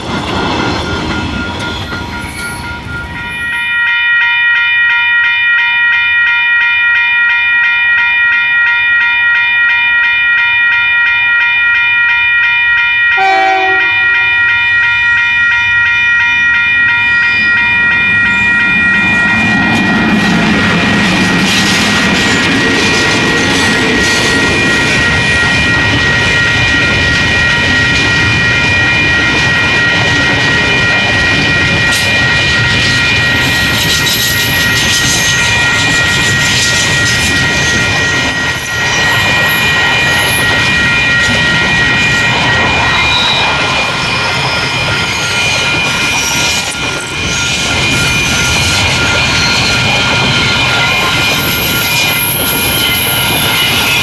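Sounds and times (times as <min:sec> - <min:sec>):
electric freight train drone: 0:00.0 - 0:04.3, 0:08.5 - 0:54.0.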